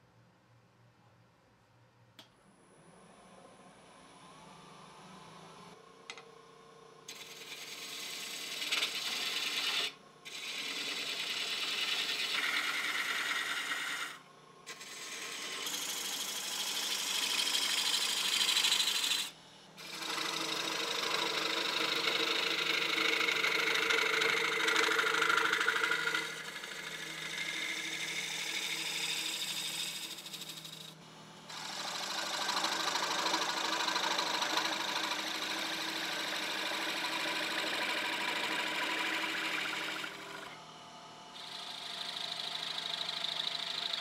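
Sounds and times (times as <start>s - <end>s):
lathe motor hum: 7.0s - 44.0s
wood lathe cutting hiss: 7.1s - 44.0s.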